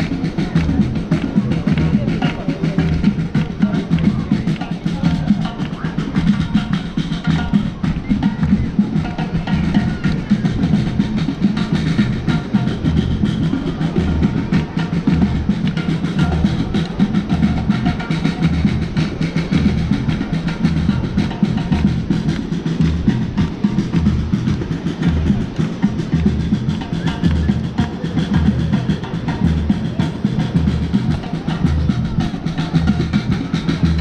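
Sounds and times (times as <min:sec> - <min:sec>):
music with drum beat: 0:00.0 - 0:34.0.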